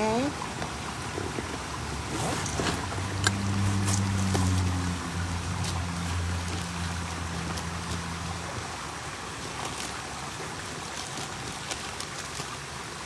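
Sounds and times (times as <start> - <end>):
flowing water: 0.0 - 13.0
bag clicking and rustling: 1.2 - 13.0.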